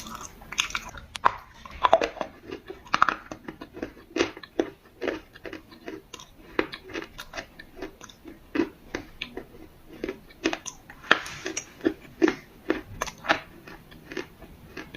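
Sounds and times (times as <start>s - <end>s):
crackle: 0.0s - 14.9s
crunchy chewing: 0.0s - 14.9s.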